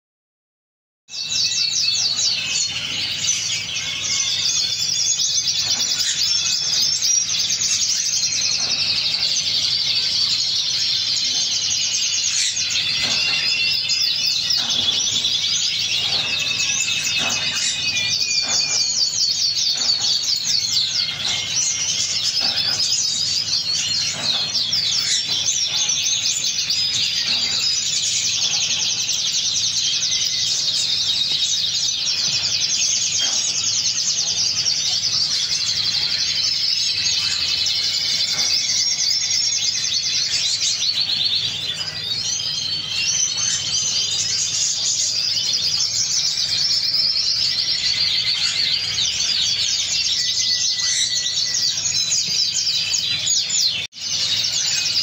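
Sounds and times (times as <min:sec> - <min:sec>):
canary singing trills: 0:01.1 - 0:55.0.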